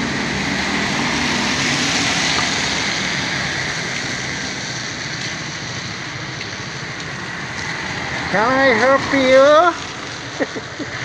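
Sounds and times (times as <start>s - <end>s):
tyres hissing on wet road: 0.0s - 11.0s
vehicle engine low hum: 0.0s - 11.0s.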